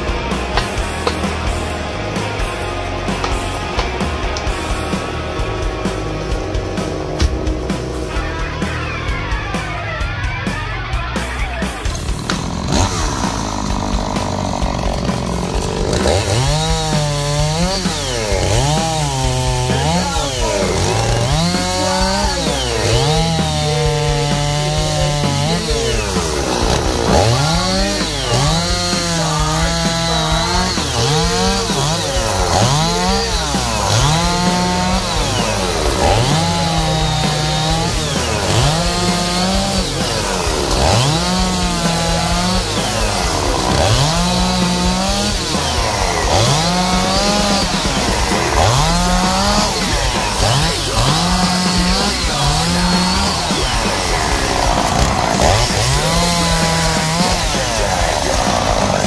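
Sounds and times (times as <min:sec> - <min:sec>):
chainsaw revving cutting wood: 0:00.0 - 0:59.0.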